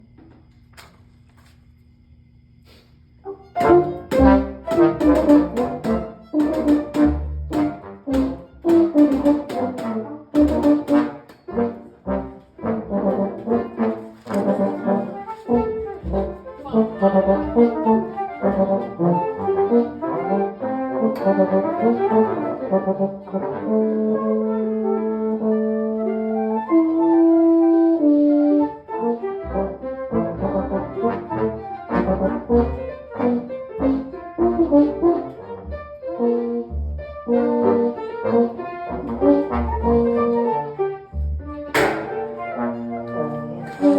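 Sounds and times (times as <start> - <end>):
brass ensemble playing: 3.2 - 43.9.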